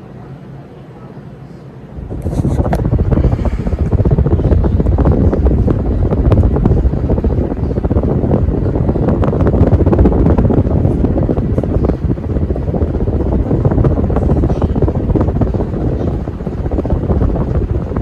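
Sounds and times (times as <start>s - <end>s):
ceiling fan air buffeting microphone: 0.0s - 18.0s.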